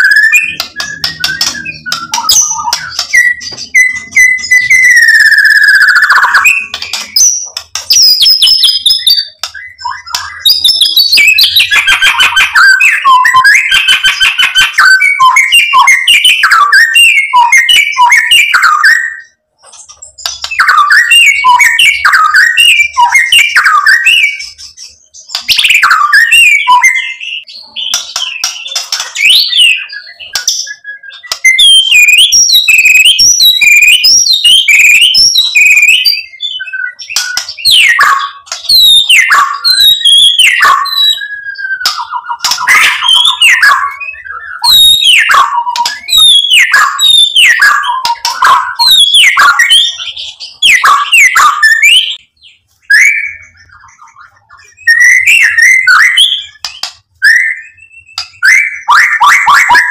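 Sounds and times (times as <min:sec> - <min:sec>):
bird singing whistled song: 0:00.0 - 0:59.9.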